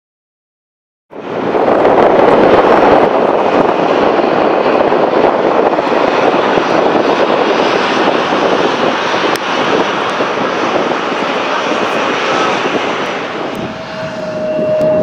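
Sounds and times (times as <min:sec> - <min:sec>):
jet landing: 0:01.1 - 0:15.0
propeller airliner taxiing: 0:01.1 - 0:15.0.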